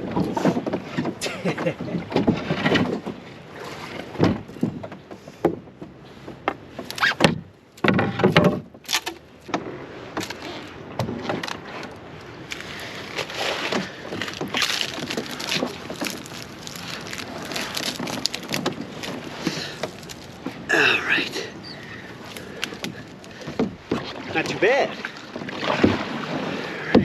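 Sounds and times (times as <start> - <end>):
canoe scraping against branches: 0.0 - 1.2, 1.8 - 27.0.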